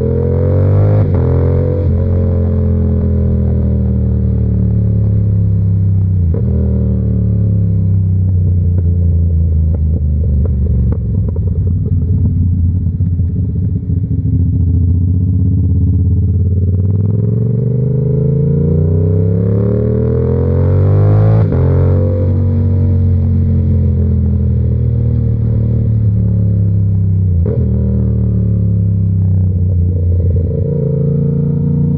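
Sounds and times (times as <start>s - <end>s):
motorcycle engine: 0.0s - 31.9s.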